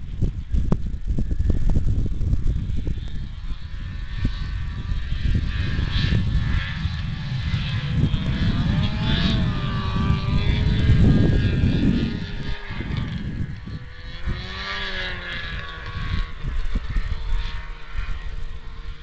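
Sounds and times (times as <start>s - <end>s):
distant snowmobile engine: 0.0s - 19.0s
uneven low rumble: 0.0s - 19.0s.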